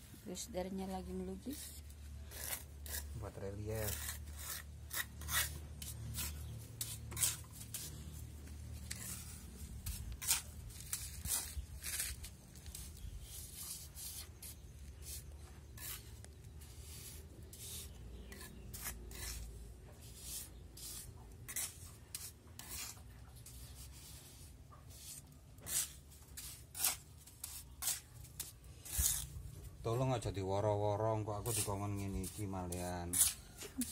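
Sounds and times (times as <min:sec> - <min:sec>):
metal tool scraping cement: 0:01.6 - 0:29.8, 0:31.2 - 0:33.9.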